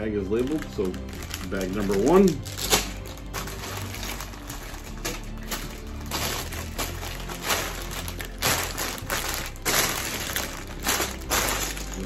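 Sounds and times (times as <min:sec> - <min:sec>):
background music: 0:00.0 - 0:12.0
plastic bags crinkling: 0:00.0 - 0:12.0.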